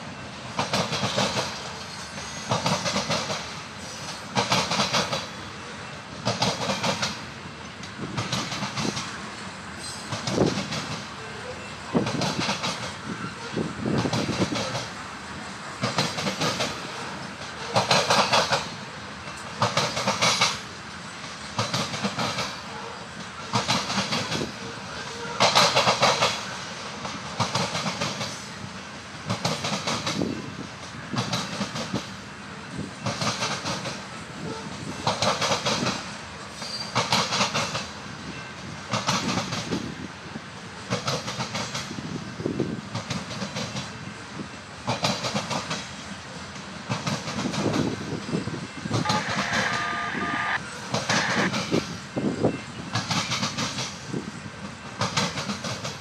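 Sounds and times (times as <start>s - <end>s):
freight train rumble: 0.0s - 56.0s.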